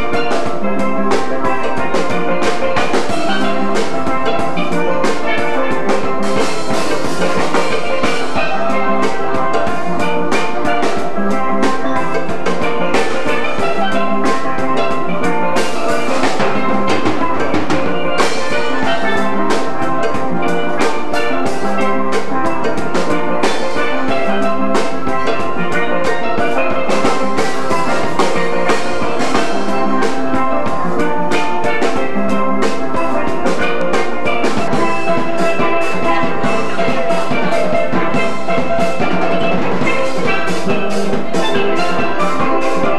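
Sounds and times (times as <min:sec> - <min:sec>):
drums with steady beat: 0:00.0 - 0:42.9
steel pans playing a melody: 0:00.0 - 0:42.9.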